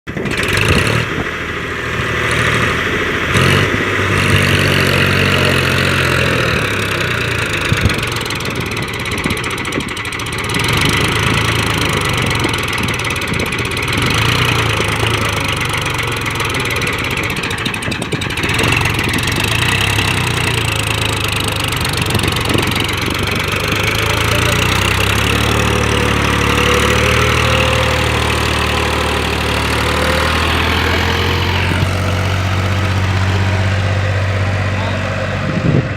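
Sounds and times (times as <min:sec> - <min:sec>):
tractor diesel engine revving: 0:00.0 - 0:35.9.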